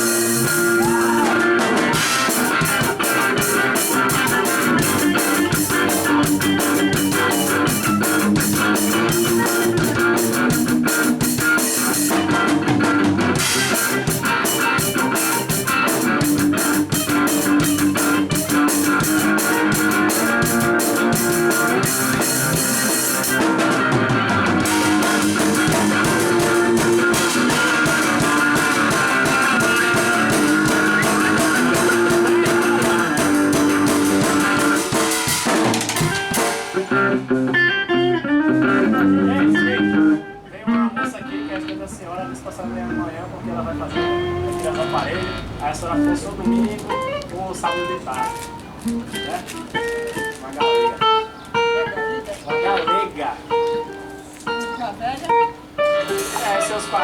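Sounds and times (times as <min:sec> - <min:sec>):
drum kit beat: 0:00.0 - 0:38.9, 0:44.0 - 0:57.0
guitar: 0:00.0 - 0:57.0.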